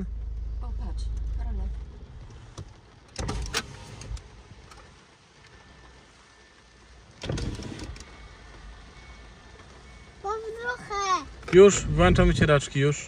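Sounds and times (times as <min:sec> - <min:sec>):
rain on car roof: 0:00.0 - 0:13.0.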